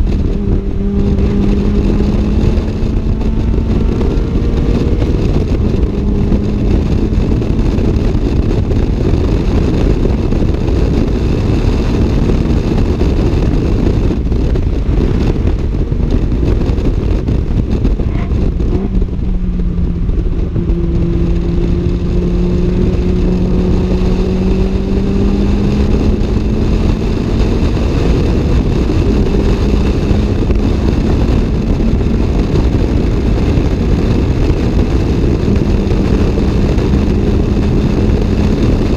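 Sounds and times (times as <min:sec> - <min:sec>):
car engine revving high: 0:00.0 - 0:38.9
road and wind noise: 0:00.0 - 0:38.9.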